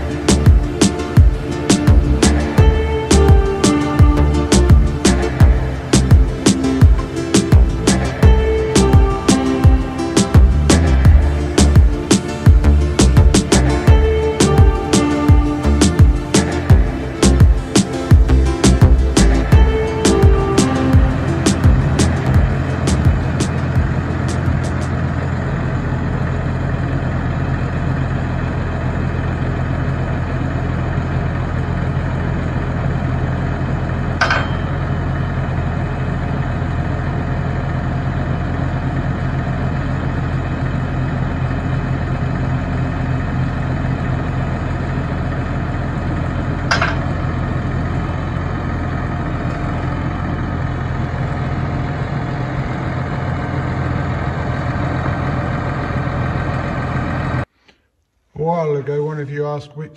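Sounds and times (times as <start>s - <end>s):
tractor diesel engine idling: 0.0s - 57.6s.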